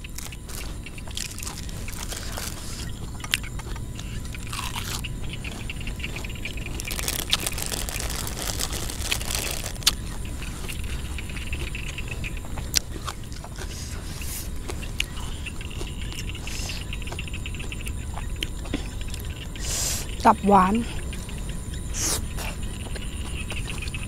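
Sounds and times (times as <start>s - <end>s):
chewing crunchy vegetables: 0.0s - 24.0s
frogs and insects chirring: 0.0s - 24.0s.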